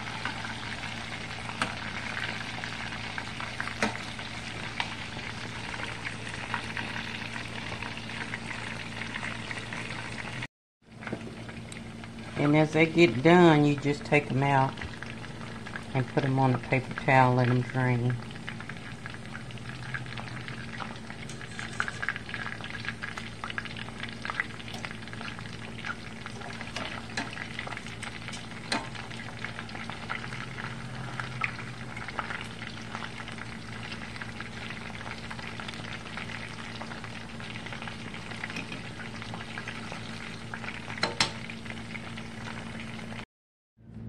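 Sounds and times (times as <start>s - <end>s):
chicken deep-frying in oil: 0.0s - 43.2s.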